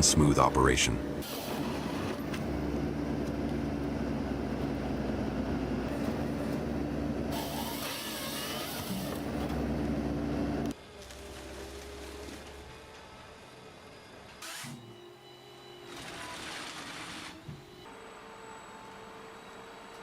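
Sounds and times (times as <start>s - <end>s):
diesel mulching machine running: 0.0s - 20.0s.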